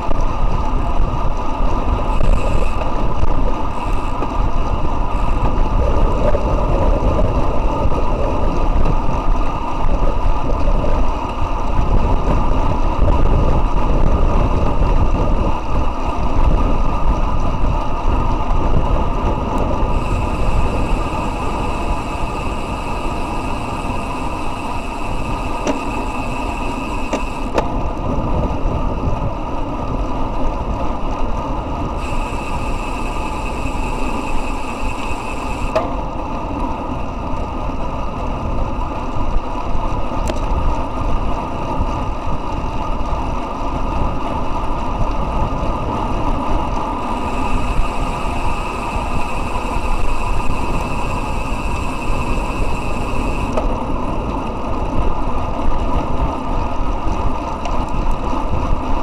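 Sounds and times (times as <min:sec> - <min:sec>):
bike tyres rolling on asphalt: 0:00.0 - 0:59.0
wind on microphone: 0:00.0 - 0:59.0.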